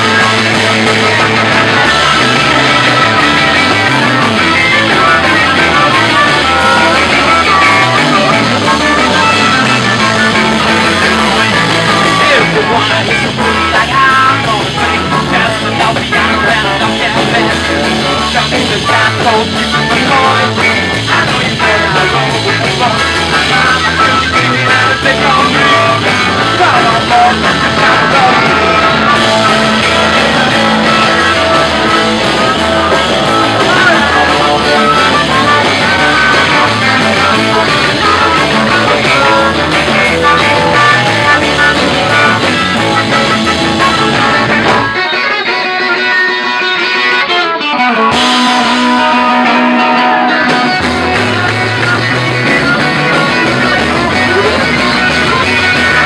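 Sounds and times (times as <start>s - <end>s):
drums: 0.0s - 56.0s
electric bass: 0.0s - 56.0s
electric guitars: 0.0s - 56.0s
person singing: 0.0s - 56.0s.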